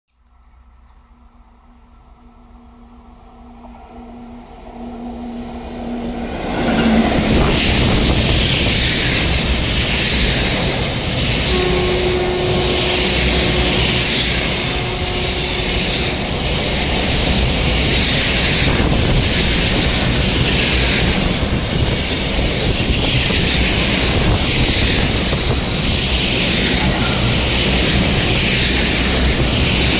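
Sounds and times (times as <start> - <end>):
freight train passing: 0.6 - 29.9
train wheels rolling on rails: 1.4 - 29.9.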